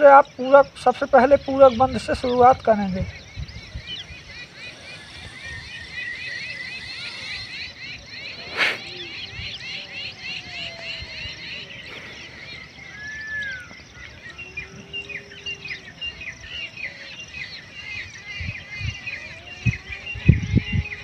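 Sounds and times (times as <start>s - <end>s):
small birds chirping: 0.0s - 21.0s
whistled bird notes: 1.3s - 21.0s.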